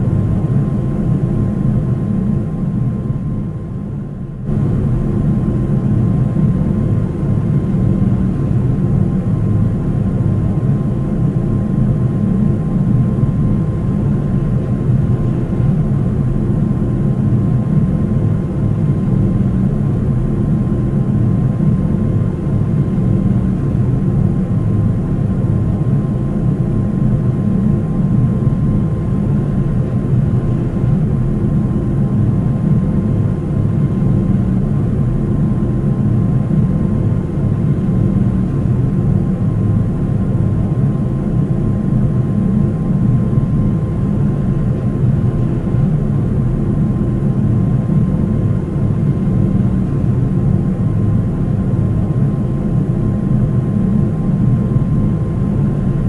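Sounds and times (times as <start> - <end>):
airplane cabin engine rumble: 0.0 - 56.0
thin steady whine: 0.0 - 56.0.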